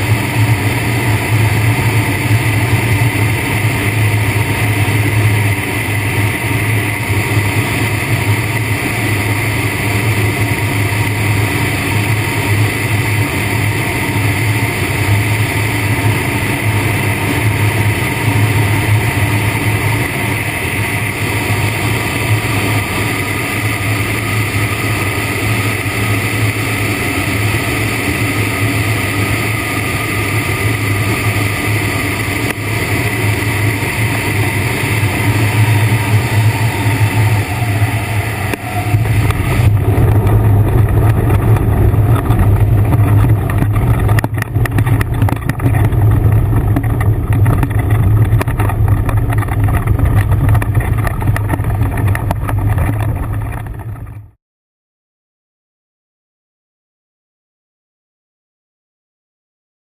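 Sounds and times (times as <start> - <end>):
ultralight aircraft in flight: 0.0 - 54.4.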